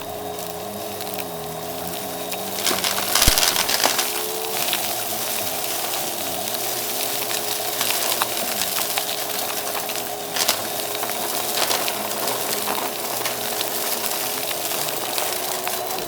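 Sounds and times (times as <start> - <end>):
brushroll crunching debris: 0.0 - 16.0
vacuum cleaner running: 0.0 - 16.0.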